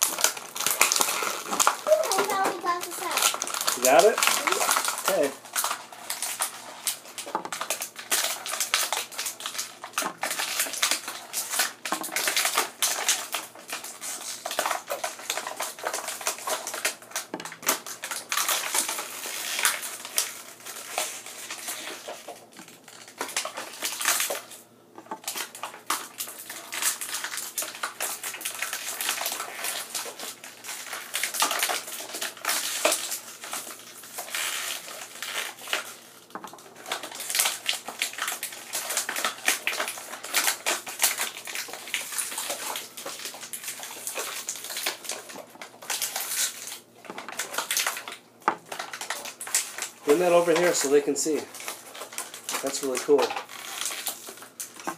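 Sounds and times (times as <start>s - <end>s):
plastic packaging crackling: 0.0s - 54.9s.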